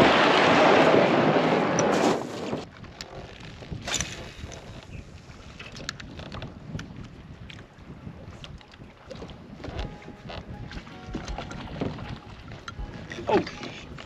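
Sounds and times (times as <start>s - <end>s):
water and air background: 0.0s - 14.0s
wind buffeting microphone: 0.0s - 14.0s.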